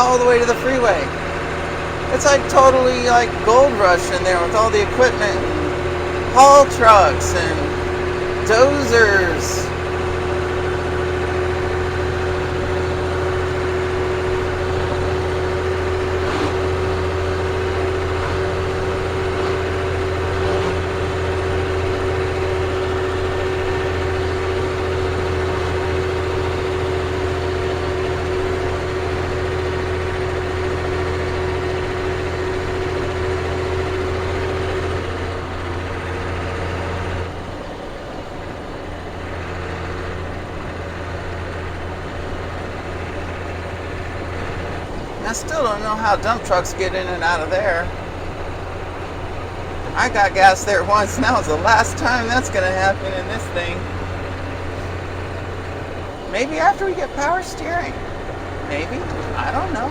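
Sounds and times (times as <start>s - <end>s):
diesel engine drone: 0.0s - 59.9s
engine whine: 0.0s - 59.9s.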